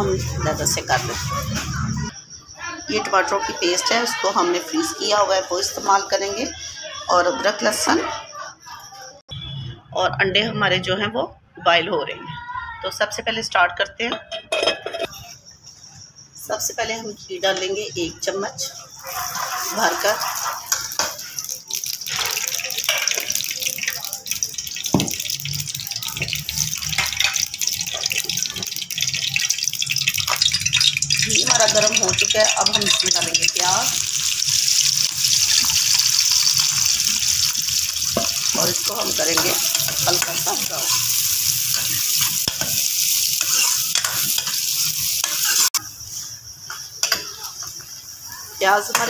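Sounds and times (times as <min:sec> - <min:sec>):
ghee sizzling in a pot: 0:00.0 - 0:07.9, 0:15.0 - 0:49.0.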